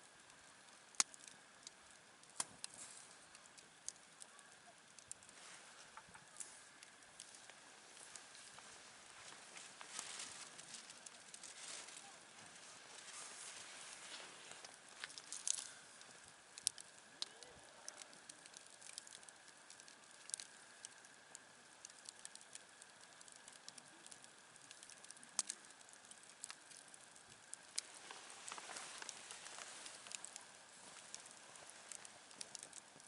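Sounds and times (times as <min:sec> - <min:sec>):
campfire crackling and popping: 0:00.0 - 0:33.0
faint fire hiss: 0:00.0 - 0:33.0.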